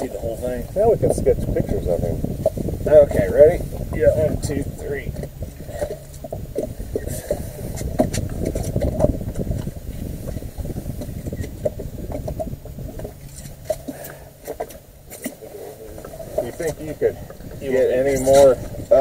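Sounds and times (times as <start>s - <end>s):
faint steady hum: 0.0s - 19.0s
wind buffeting microphone: 0.0s - 19.0s.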